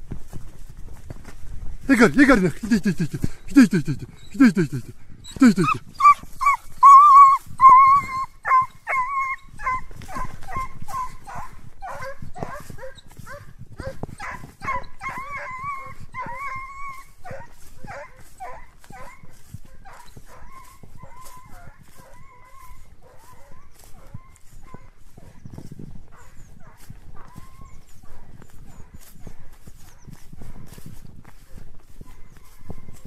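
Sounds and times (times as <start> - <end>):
hunting dog barking and yelping: 2.0 - 33.0.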